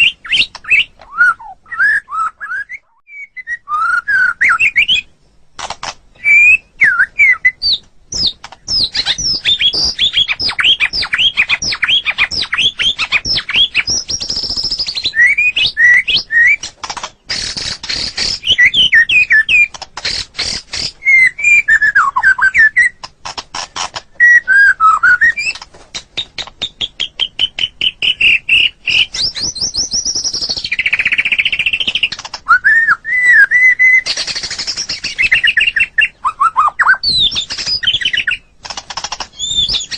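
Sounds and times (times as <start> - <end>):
songbird singing whistled phrases: 0.0 - 5.1, 6.1 - 16.7, 17.3 - 23.0, 24.2 - 38.5, 39.3 - 39.9.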